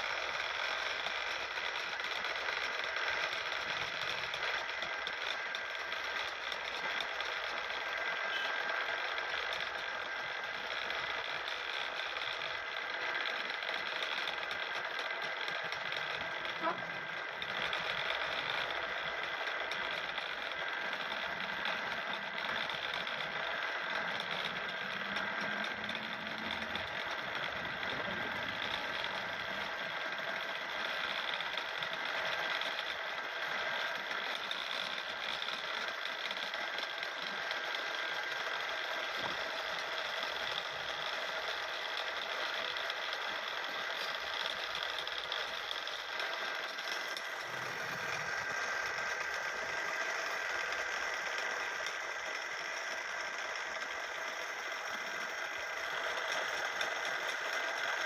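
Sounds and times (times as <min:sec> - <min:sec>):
wood lathe running: 0:00.0 - 0:58.0.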